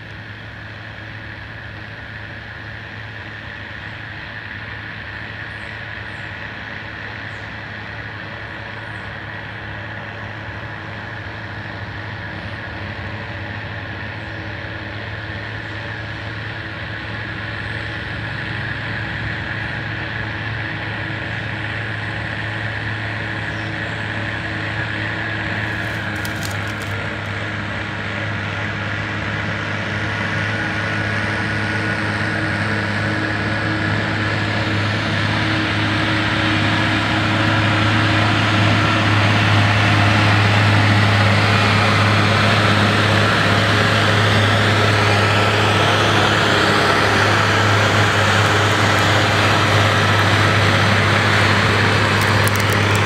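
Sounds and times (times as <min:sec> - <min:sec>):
diesel engine running: 0:00.0 - 0:53.0
spinner spreader running: 0:00.0 - 0:53.0.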